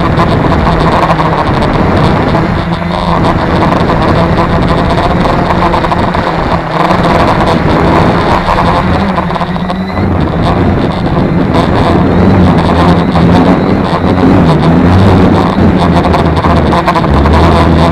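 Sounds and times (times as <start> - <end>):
drone propellers buzzing: 0.0 - 17.9
wind buffeting microphone: 0.0 - 17.9.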